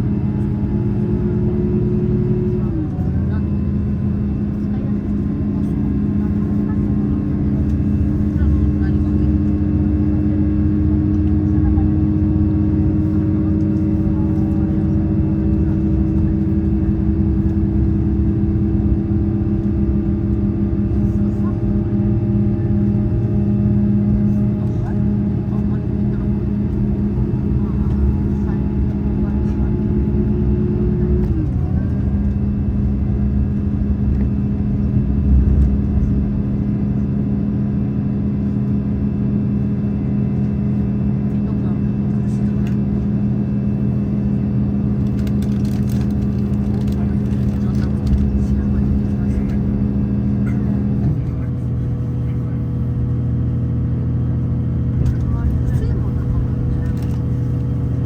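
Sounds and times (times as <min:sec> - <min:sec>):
train engine drone: 0:00.0 - 0:58.0.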